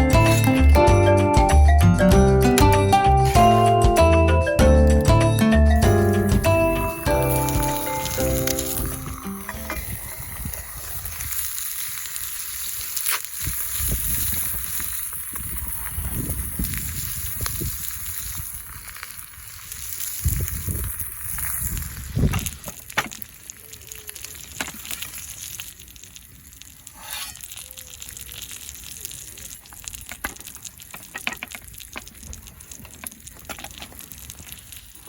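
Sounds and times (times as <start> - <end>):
food sizzling in a pan: 0.0 - 0.7, 5.8 - 35.0
fire crackling and popping: 0.0 - 4.1, 4.9 - 35.0.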